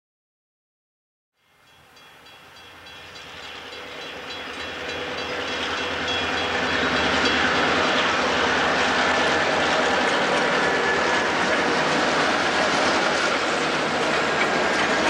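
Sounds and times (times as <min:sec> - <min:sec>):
diesel locomotive engines: 0:01.4 - 0:15.0.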